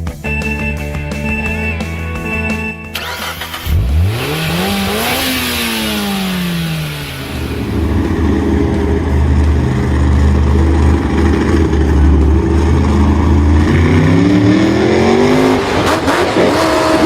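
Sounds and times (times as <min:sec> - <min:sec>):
engine running and revving: 0:02.9 - 0:17.0.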